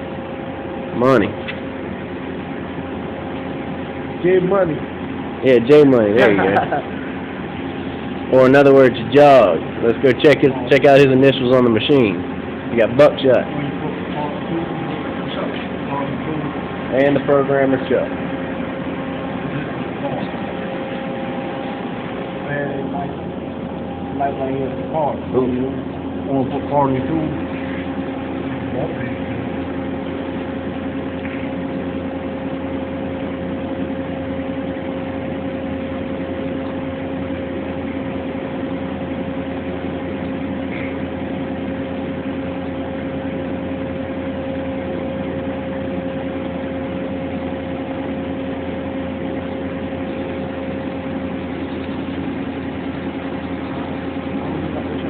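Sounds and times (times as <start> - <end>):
shop machinery humming: 0.0 - 55.0.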